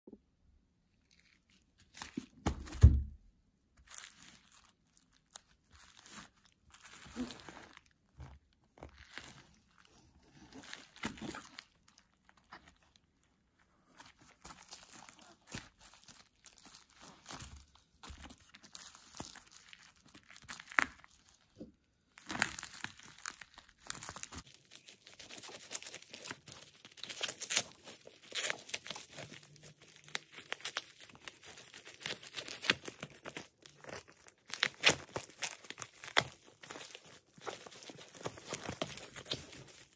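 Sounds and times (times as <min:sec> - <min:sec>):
bubble wrap crinkling: 0:00.9 - 0:03.1, 0:03.7 - 0:39.9.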